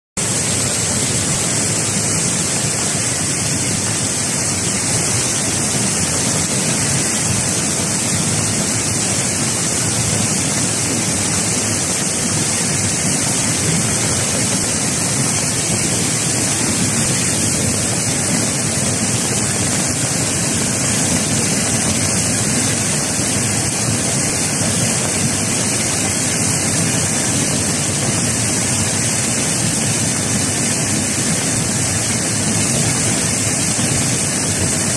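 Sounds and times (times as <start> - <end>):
floodwater rushing: 0.2 - 34.9.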